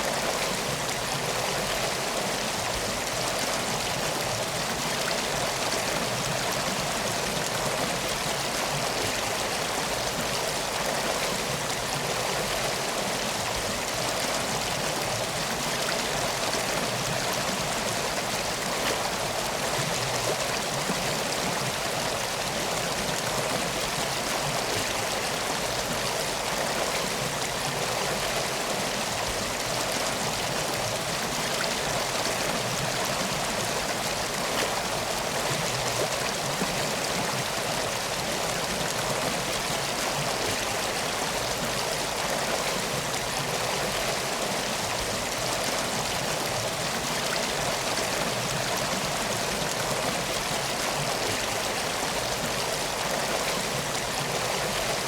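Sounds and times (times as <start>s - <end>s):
stream of flowing water: 0.0s - 55.0s.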